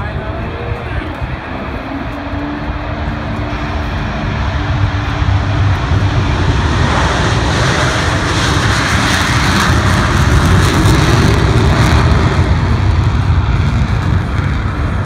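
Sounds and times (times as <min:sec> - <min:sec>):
jet engines taking off: 0:00.0 - 0:15.0.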